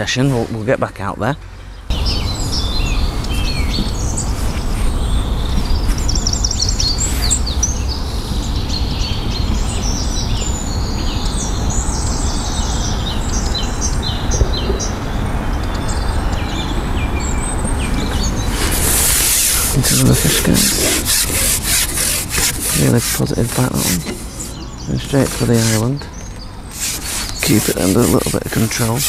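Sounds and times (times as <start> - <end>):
small birds chirping: 1.5 - 29.0.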